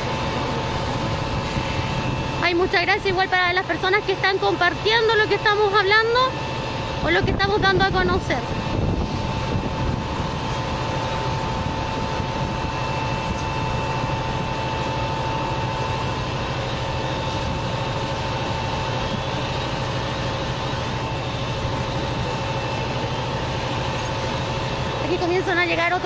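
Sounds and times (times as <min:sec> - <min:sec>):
fire engine running pump: 0:00.0 - 0:26.0
steady whine: 0:00.0 - 0:26.0.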